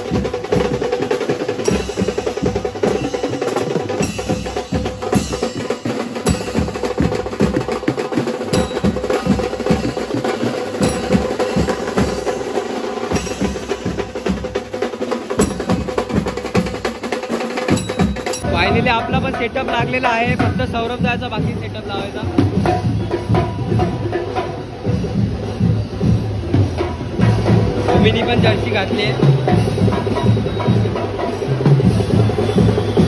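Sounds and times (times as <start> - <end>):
drums playing fast rhythm: 0.0 - 33.0.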